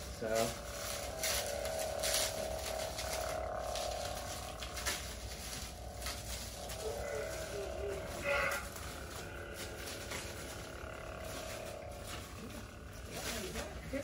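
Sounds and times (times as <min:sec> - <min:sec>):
lightsaber swing tones: 0:00.0 - 0:14.0
plastic wrap crinkling: 0:00.0 - 0:14.0
toy lightsaber humming: 0:00.0 - 0:14.0.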